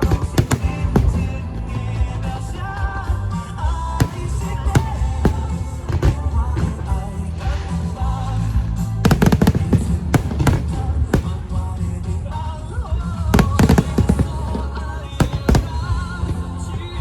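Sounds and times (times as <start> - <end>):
fireworks bangs: 0.0 - 2.6, 3.3 - 8.0, 9.0 - 17.0
music with singing: 0.0 - 17.0.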